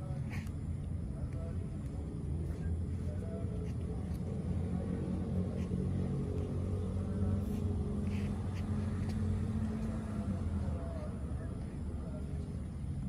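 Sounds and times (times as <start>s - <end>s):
low mechanical rumble with hum: 0.0s - 13.0s.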